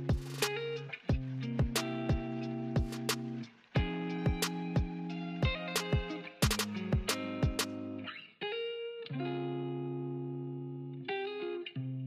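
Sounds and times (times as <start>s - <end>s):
guitar music over steady beat: 0.0s - 12.0s.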